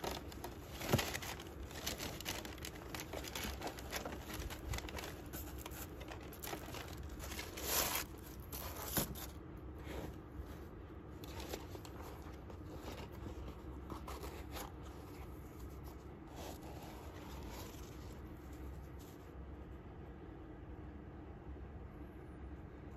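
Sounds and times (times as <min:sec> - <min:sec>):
tissue paper crinkling: 0:00.0 - 0:19.4.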